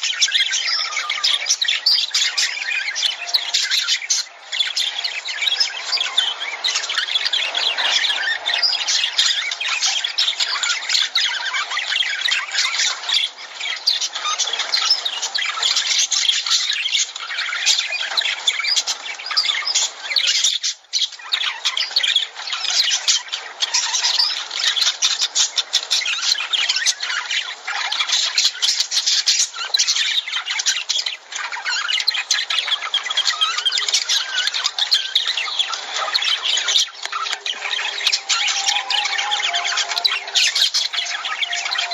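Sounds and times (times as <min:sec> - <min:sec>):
lovebirds chattering and squawking: 0:00.0 - 0:41.9.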